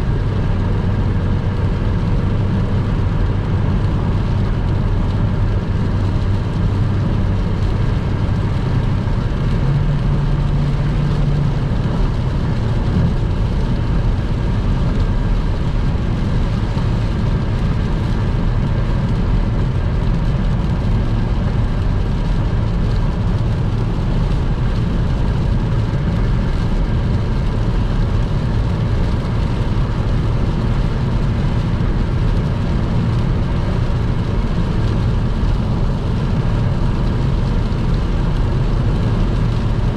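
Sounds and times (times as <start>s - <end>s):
car engine drone: 0.0s - 39.9s
tyre and road noise: 0.0s - 39.9s.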